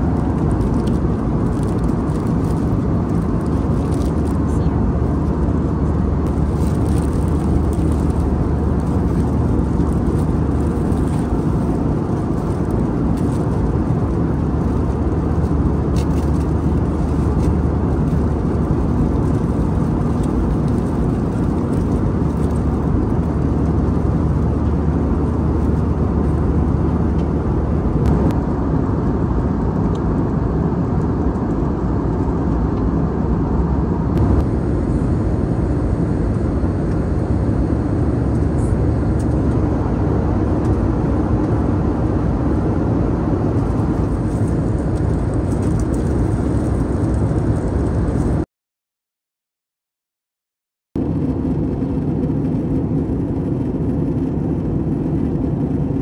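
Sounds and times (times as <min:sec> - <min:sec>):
airplane cabin engine rumble: 0:00.0 - 0:48.5, 0:51.0 - 0:56.0.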